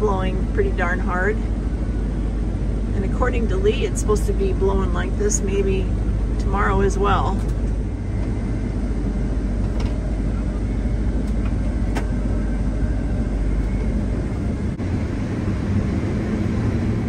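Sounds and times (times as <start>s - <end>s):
combine harvester drone: 0.0s - 17.0s.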